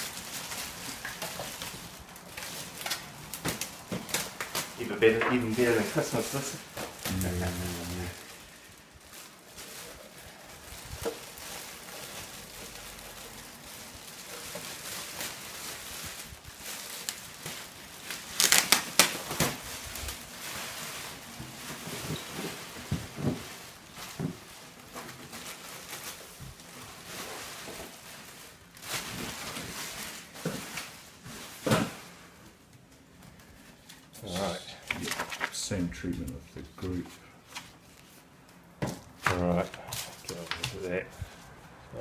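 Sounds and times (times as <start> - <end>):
plastic wrapping crinkling: 0.0 - 42.0.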